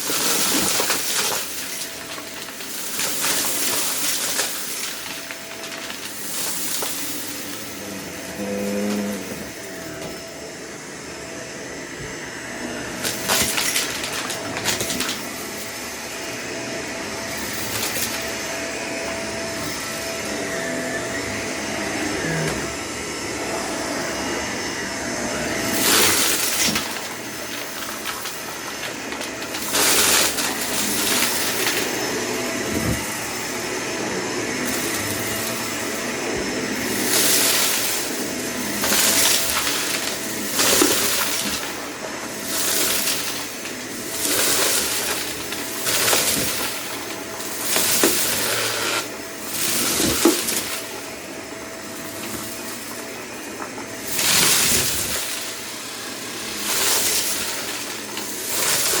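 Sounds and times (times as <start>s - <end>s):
debris crackling in vacuum: 0.0s - 10.4s, 12.8s - 16.4s, 17.1s - 23.3s, 23.9s - 59.0s
vacuum cleaner running: 0.0s - 59.0s.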